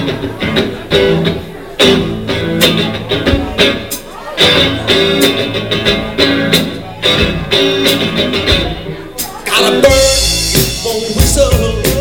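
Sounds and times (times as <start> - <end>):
drums keeping a steady beat: 0.0 - 12.0
electric guitar chords: 0.0 - 12.0.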